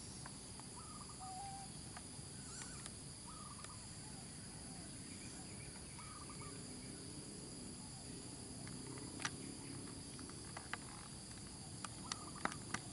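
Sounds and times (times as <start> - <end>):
insect chorus drone: 0.0 - 12.9.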